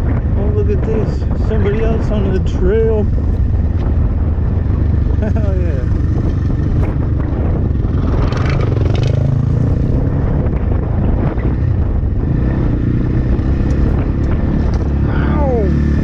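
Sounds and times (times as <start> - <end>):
dirt bike engine running: 0.0 - 16.0
wind buffeting on microphone: 0.0 - 16.0.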